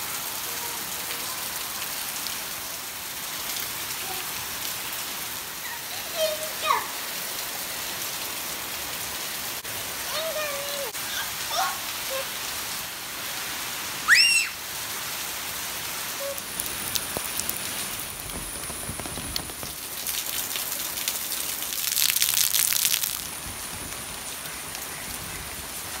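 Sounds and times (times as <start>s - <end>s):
close rain spattering: 0.0s - 26.0s
rain pattering on surfaces: 0.0s - 26.0s.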